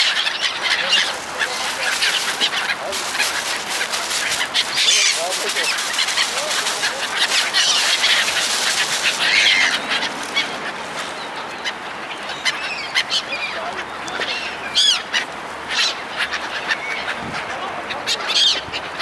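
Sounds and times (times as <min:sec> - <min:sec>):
seagulls calling: 0:00.0 - 0:19.0.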